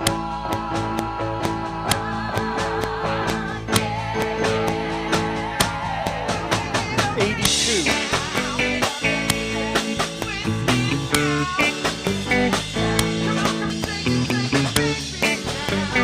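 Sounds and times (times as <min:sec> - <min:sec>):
drum beat: 0:00.0 - 0:16.0
synthesized electric guitar: 0:00.0 - 0:16.0.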